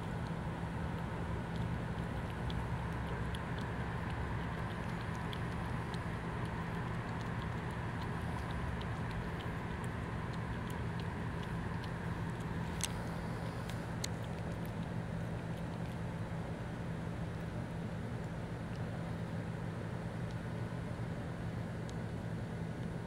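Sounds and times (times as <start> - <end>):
cat lapping milk: 0.0 - 23.0
low mechanical hum: 0.0 - 23.0.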